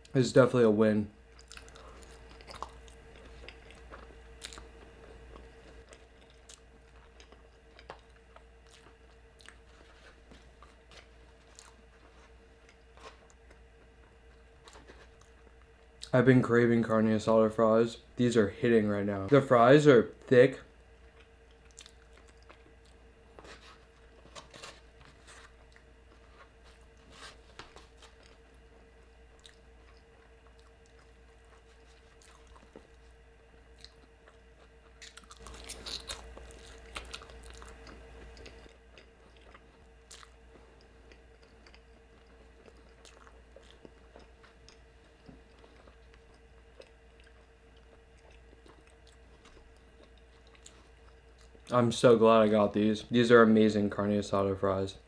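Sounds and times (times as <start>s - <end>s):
faint steady hum: 0.0s - 55.0s
chewing food close up: 1.3s - 16.1s, 20.8s - 51.7s.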